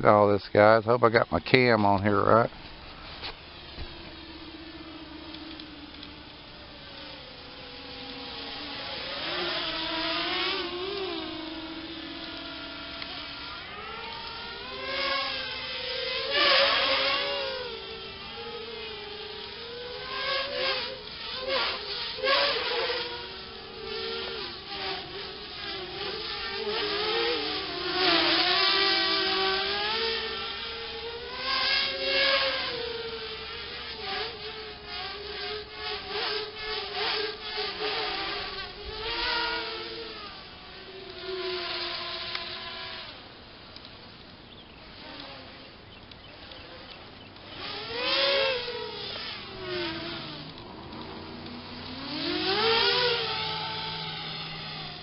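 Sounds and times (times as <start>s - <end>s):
quadcopter propellers whining: 0.0s - 55.0s.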